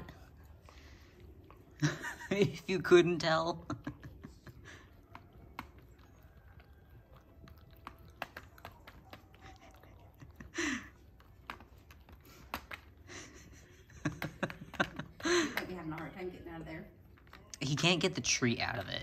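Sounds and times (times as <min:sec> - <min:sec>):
dog chewing treats: 0:00.0 - 0:19.0.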